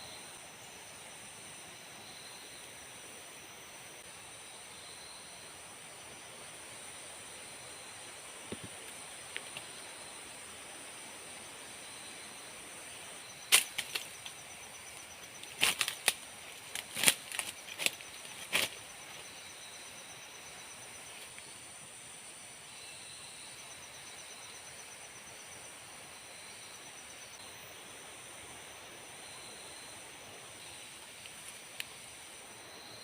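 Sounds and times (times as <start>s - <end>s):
forest insects droning: 0.0s - 33.0s.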